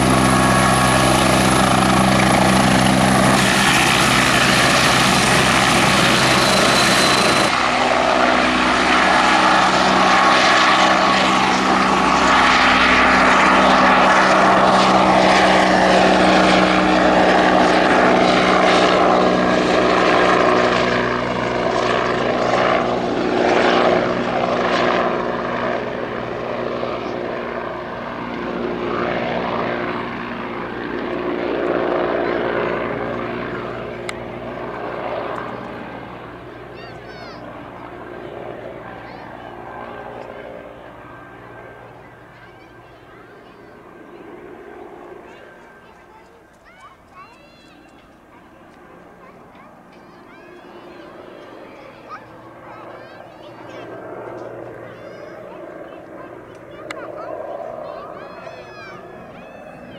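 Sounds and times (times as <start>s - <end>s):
helicopter rotor beating: 0.0s - 59.9s
helicopter turbine whining: 0.0s - 59.9s.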